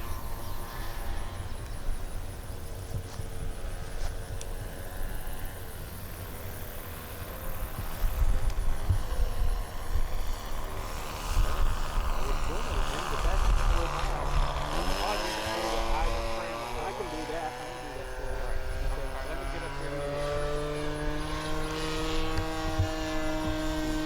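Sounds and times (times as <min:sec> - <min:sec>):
model airplane engine idling: 0:00.0 - 0:24.0
wind rumble on microphone: 0:00.0 - 0:24.0.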